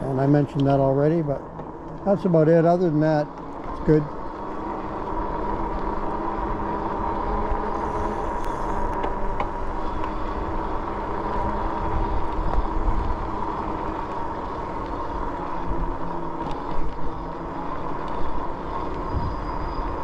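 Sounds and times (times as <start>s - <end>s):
tires humming on pavement: 0.0s - 20.0s.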